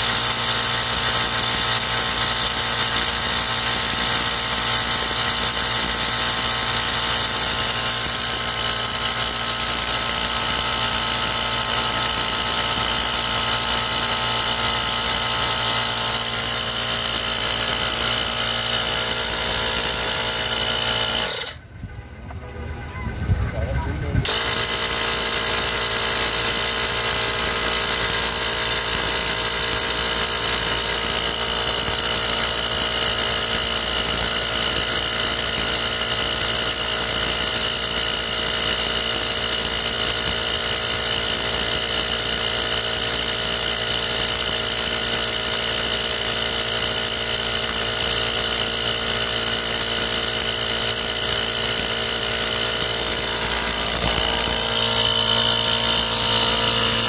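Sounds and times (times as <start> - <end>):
air compressor pumping: 0.0 - 21.6, 24.1 - 57.0.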